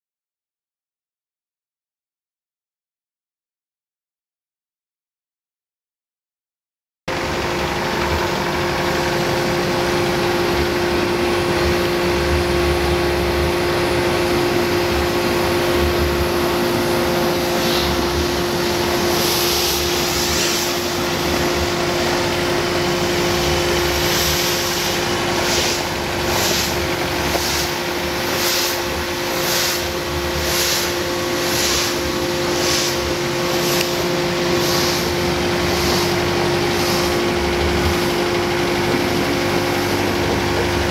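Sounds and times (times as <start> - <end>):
pulsing high hiss: 7.1 - 40.9
tractor diesel engine running: 7.1 - 40.9.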